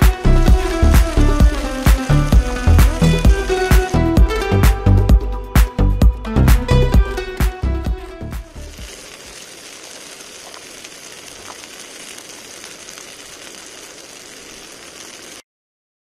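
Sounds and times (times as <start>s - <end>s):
meat sizzling in a grill pan: 0.0s - 5.0s, 7.2s - 15.4s.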